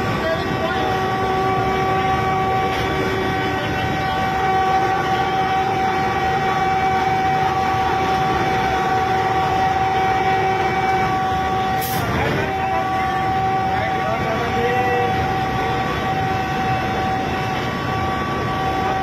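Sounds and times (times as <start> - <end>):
constant electric whine: 0.0 - 19.0
train running rumble: 0.0 - 19.0.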